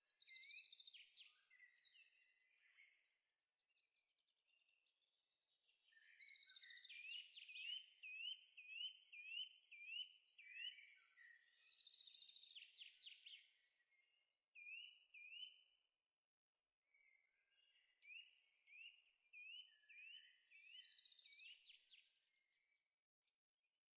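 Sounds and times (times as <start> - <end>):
faint birdsong: 0.0 - 23.9.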